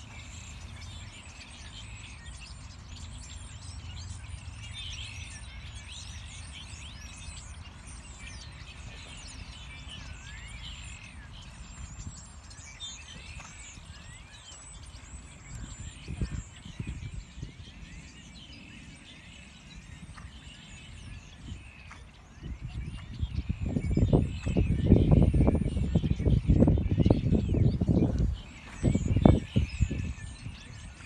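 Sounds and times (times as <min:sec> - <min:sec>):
small birds chirping: 0:00.0 - 0:31.0
wind rumble on microphone: 0:00.0 - 0:31.0.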